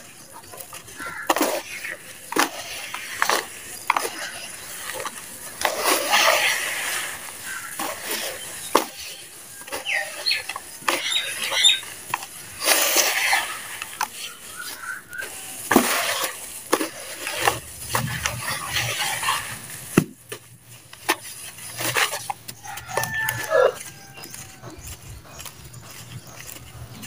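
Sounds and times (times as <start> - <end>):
hands crumbling damp dirt: 0.0 - 27.0.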